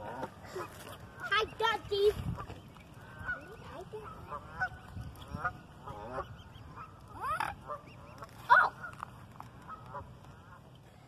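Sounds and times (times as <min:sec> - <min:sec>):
waterfowl calling: 0:00.0 - 0:11.0.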